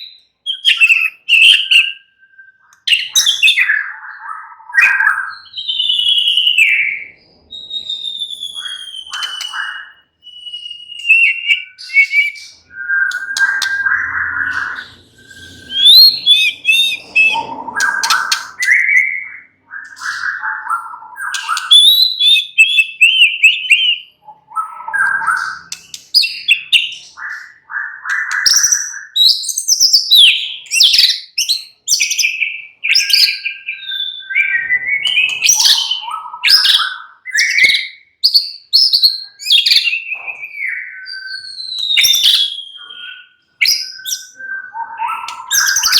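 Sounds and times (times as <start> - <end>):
bird singing varied song: 0.0 - 45.9.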